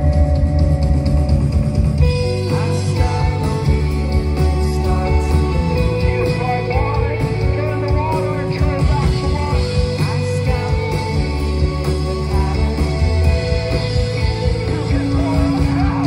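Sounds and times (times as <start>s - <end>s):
live rock band playing: 0.0s - 16.0s
person singing: 2.0s - 16.0s.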